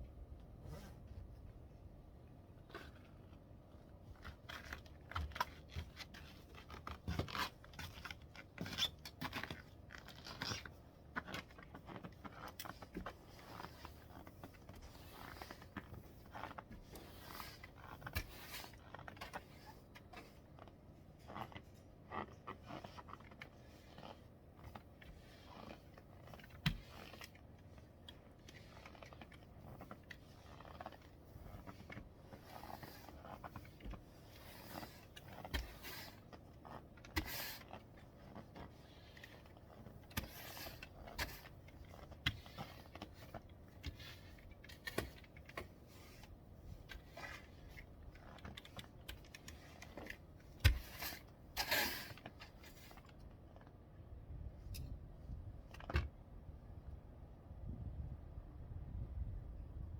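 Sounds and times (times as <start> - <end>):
scraping and crunching: 4.2 - 53.2.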